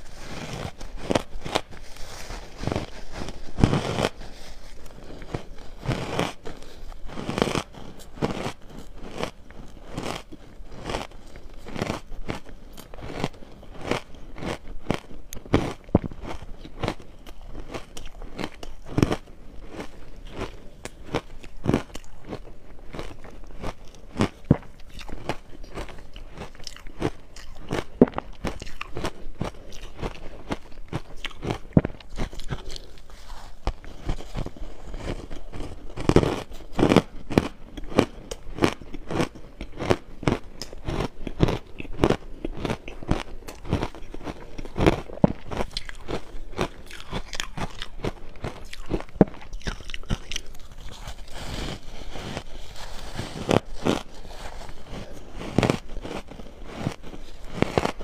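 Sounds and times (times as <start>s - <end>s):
crushed ice being chewed: 0.0s - 58.0s.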